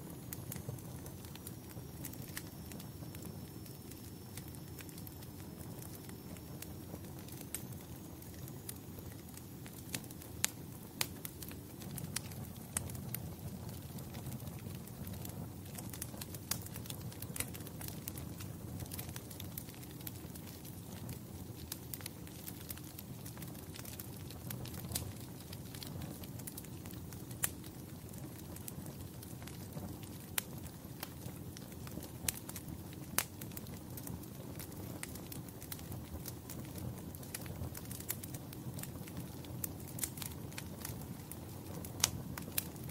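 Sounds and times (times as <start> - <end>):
low rumble of burning: 0.0 - 42.9
wood fire pops and snaps: 0.1 - 42.9.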